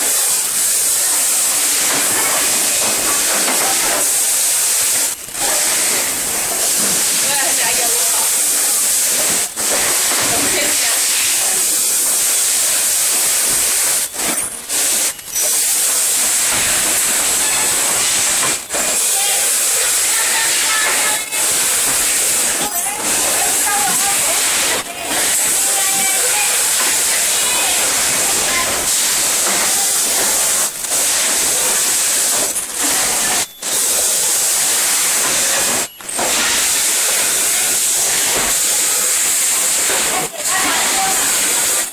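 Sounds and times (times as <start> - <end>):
printing machines hissing: 0.0 - 41.9.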